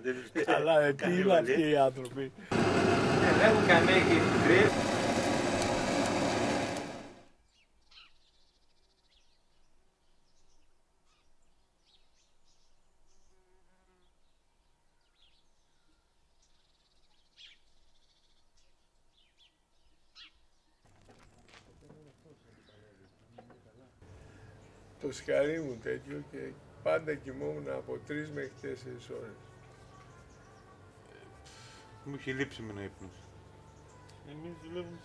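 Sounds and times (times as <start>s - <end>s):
outdoor ambience: 0.0s - 13.2s, 14.5s - 35.0s.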